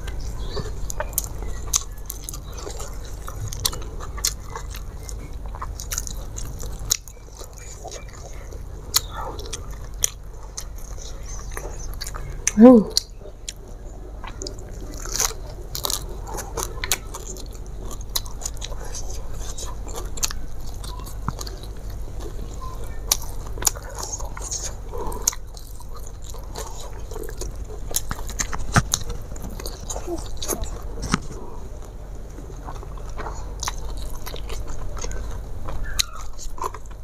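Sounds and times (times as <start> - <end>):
person chewing and biting food: 0.0 - 37.0.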